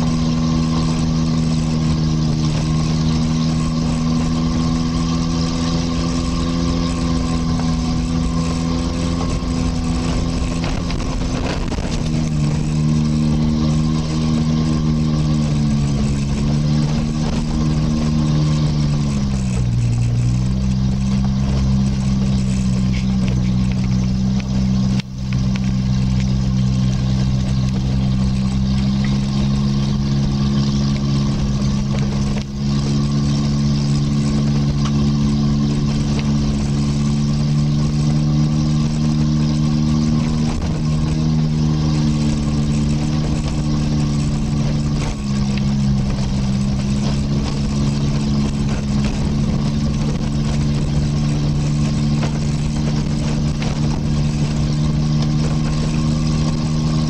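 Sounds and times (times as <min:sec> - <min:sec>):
vehicle engine from inside: 0:00.0 - 0:57.0.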